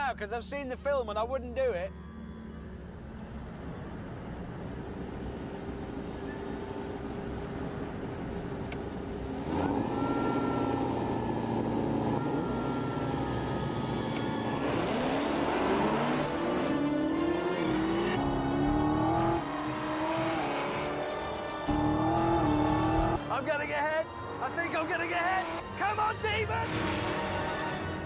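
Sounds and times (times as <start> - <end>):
car engines rumbling and revving: 2.6 - 28.0.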